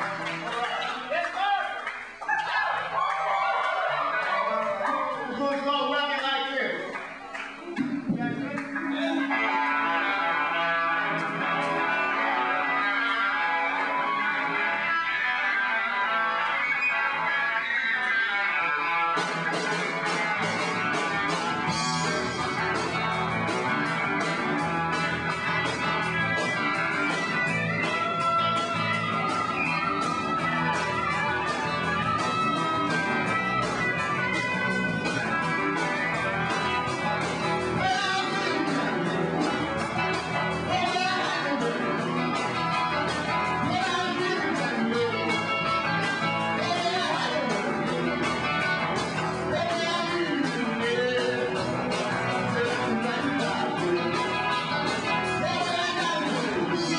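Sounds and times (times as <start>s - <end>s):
electric guitar: 0.0s - 1.2s, 6.9s - 56.9s.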